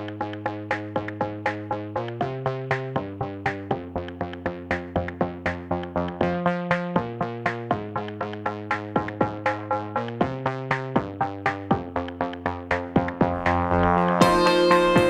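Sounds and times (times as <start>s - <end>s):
electronic synthesizer music: 0.0s - 15.0s.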